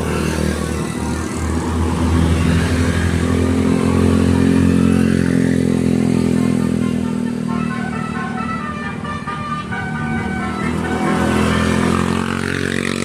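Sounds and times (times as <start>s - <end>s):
bus engine revving: 0.0s - 13.0s.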